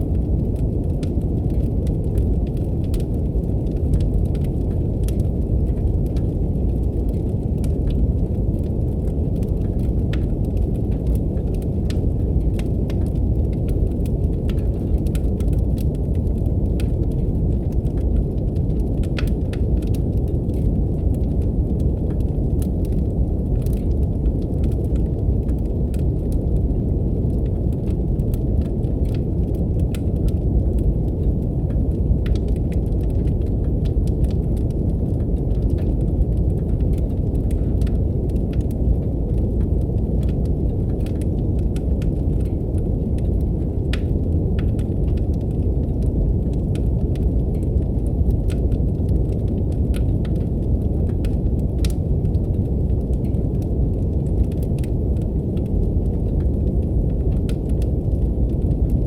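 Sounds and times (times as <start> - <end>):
deep brown noise: 0.0 - 59.0
wood fire crackling: 0.0 - 59.0.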